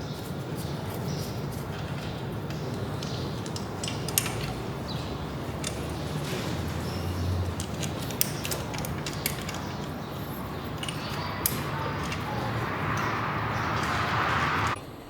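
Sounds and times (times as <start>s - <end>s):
hand tools clinking on metal: 0.8s - 14.8s.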